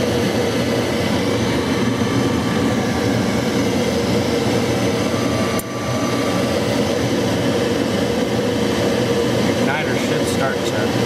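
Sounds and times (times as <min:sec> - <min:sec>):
furnace fan motor humming: 0:00.0 - 0:11.0.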